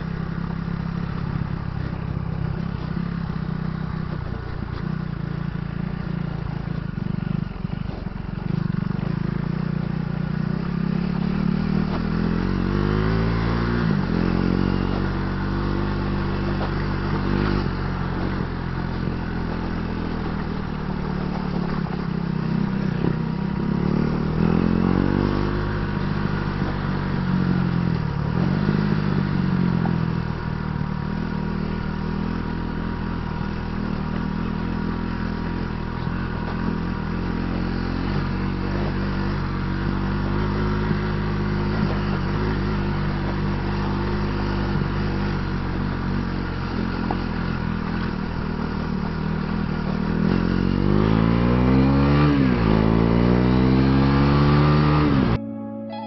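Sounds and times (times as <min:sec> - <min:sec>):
motorcycle engine revving: 0:00.0 - 0:55.7.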